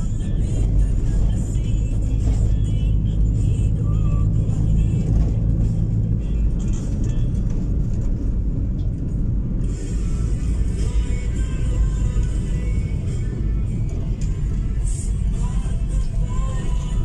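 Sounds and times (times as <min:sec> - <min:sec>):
car engine and tyre rumble: 0:00.0 - 0:17.0
music playing: 0:00.0 - 0:17.0.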